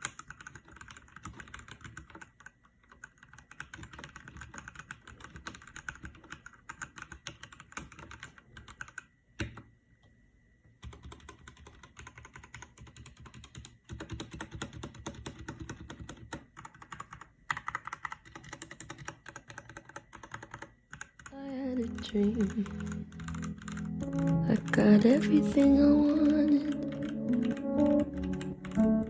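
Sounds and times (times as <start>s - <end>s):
mechanical keyboard typing: 0.0s - 9.6s, 10.8s - 29.0s.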